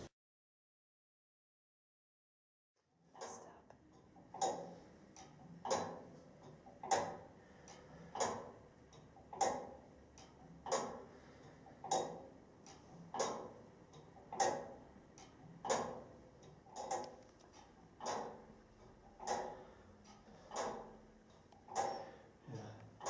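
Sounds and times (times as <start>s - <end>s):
tower clock ticking: 4.0s - 23.0s.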